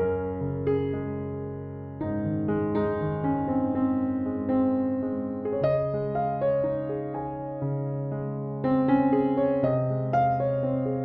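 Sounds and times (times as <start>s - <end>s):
gentle keyboard melody: 0.0s - 11.0s.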